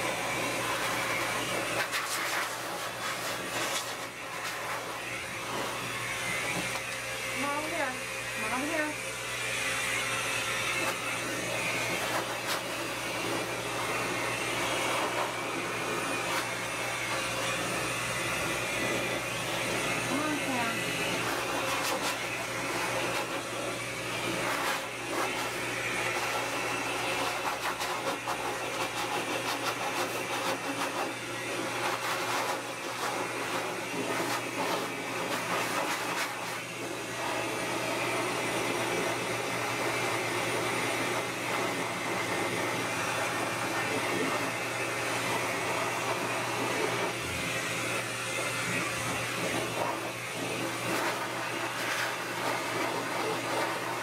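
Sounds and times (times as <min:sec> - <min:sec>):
pet dryer blowing air: 0:00.0 - 0:54.0.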